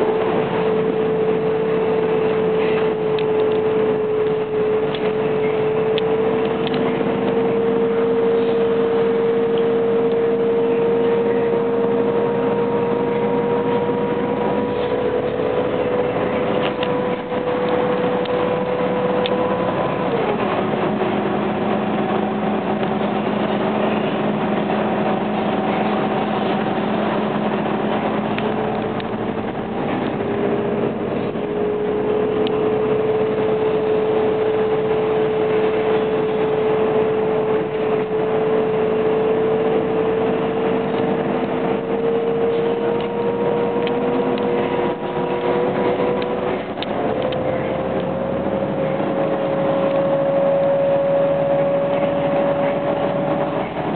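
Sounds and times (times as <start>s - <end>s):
bus engine and drivetrain: 0.0s - 53.9s
road noise: 0.0s - 53.9s
steady whine rising in pitch: 0.0s - 53.9s.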